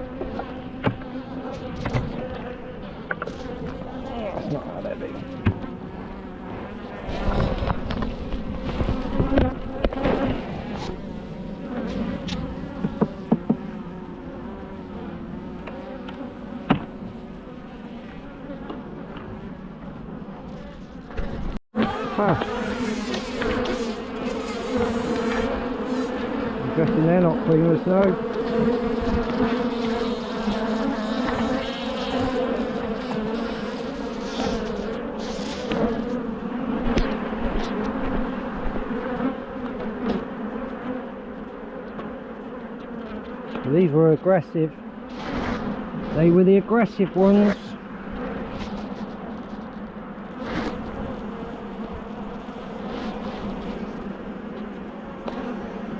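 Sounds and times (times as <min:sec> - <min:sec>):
bees buzzing: 0:00.0 - 0:55.9.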